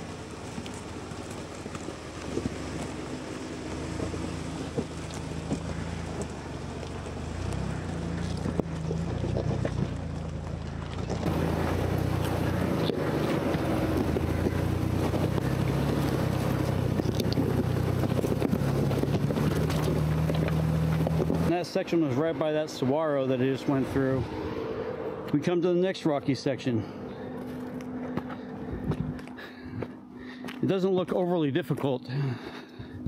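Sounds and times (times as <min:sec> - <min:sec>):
car engine at low revs: 0:00.0 - 0:33.0.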